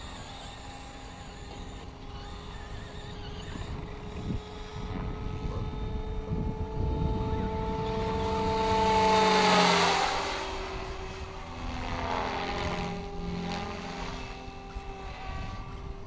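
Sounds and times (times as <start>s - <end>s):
rc helicopter rotor whine: 0.0s - 16.0s.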